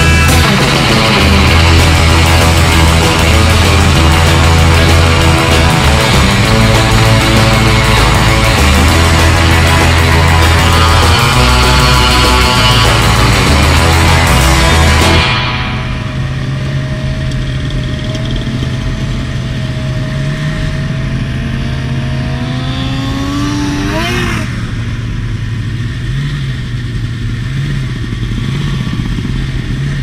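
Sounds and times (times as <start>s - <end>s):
high whine rising in pitch: 0.0s - 26.1s
snowmobile engine running: 0.0s - 30.0s.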